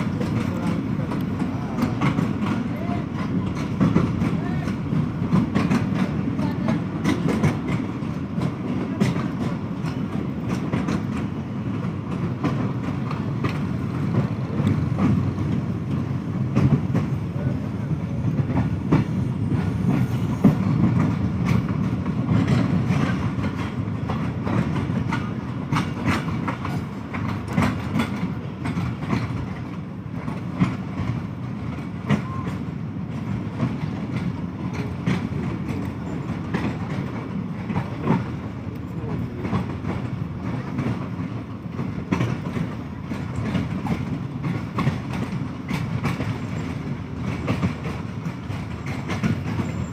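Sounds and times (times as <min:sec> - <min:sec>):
train rumbling on track: 0:00.0 - 0:49.9
wheels clacking over rail joints: 0:00.0 - 0:49.9.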